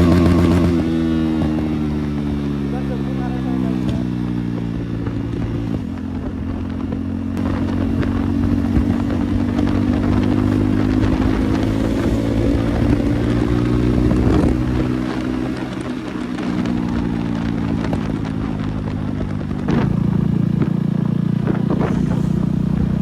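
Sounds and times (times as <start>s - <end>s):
motorcycle engine without exhaust: 0.0s - 23.0s.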